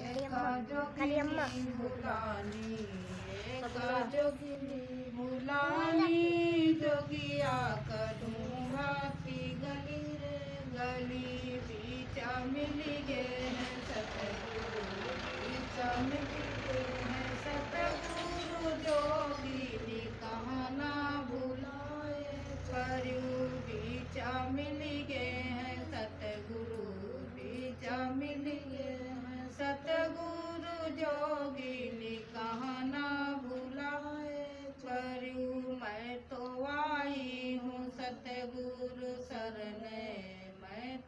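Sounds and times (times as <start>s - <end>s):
women chanting devotional song: 0.0s - 41.0s.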